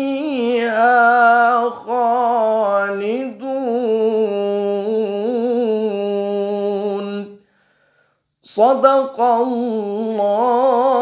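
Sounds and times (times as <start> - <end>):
man reciting melodically: 0.0 - 7.4, 8.4 - 11.0.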